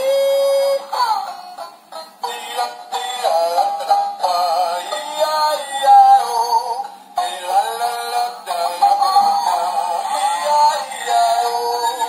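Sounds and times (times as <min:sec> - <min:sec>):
electronic synthesized singing: 0:02.2 - 0:12.0.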